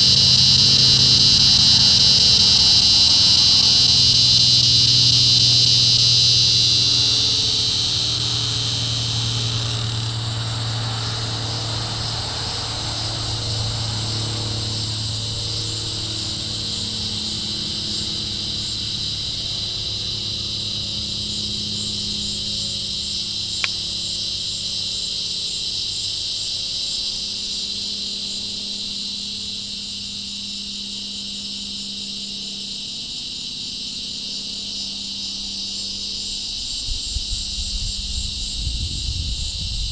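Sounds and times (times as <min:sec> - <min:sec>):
cicada buzzing: 0:00.0 - 0:39.9.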